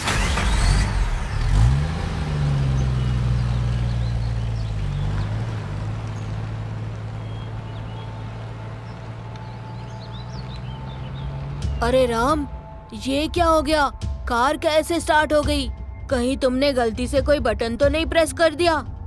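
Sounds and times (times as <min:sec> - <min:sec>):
car engine starting and droning: 0:00.0 - 0:16.8.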